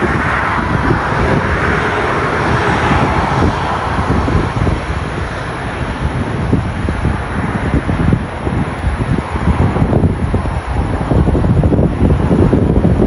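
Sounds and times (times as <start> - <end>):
jet engines rushing hiss: 0.0 - 13.0
wind buffeting microphone: 0.0 - 13.0.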